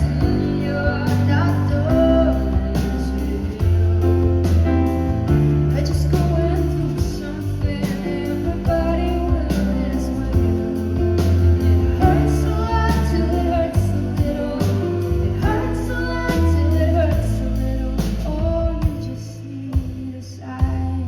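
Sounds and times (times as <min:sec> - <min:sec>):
low bass notes: 0:00.0 - 0:21.0
woman singing: 0:00.0 - 0:21.0.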